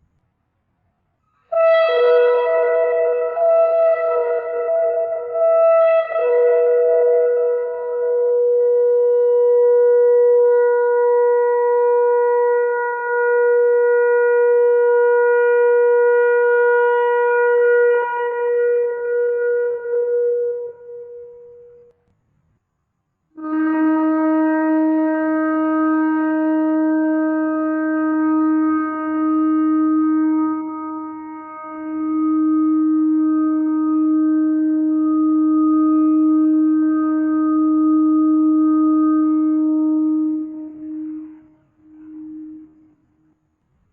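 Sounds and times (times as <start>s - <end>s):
shofar blowing: 1.4s - 22.1s, 23.4s - 43.4s.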